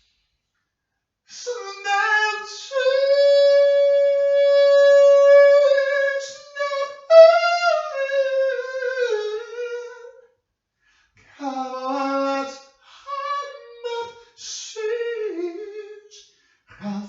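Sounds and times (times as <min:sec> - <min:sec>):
person singing unaccompanied: 0:01.3 - 0:10.2, 0:11.3 - 0:16.2.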